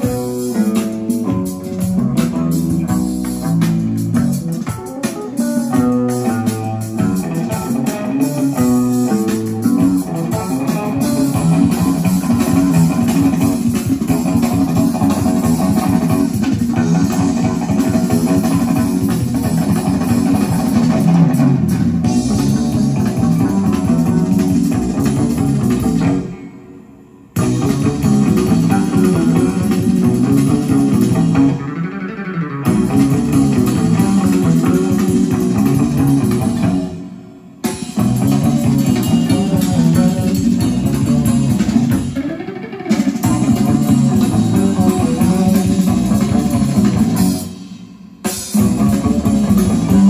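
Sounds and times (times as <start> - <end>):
guitar-led instrumental music: 0.0 - 50.0.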